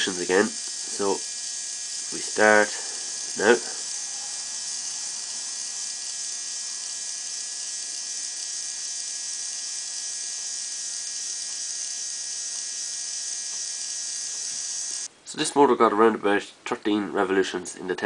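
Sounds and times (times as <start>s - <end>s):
small electric gear motor whirring: 0.0s - 15.1s.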